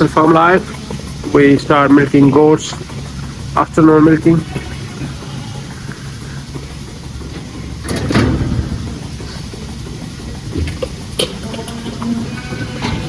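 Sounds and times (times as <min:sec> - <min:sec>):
milking machinery humming: 0:00.0 - 0:13.0.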